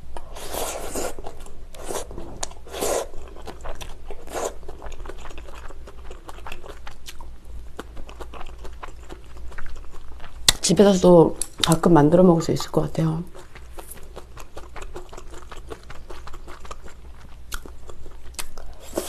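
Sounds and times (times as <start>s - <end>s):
wet chewing with mouth clicks: 0.1s - 10.8s, 13.2s - 19.0s.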